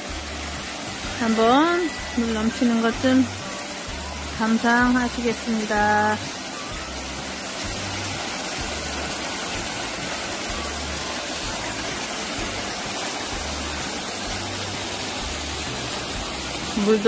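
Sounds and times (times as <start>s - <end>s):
small waterfall splashing on stones: 0.0s - 17.0s.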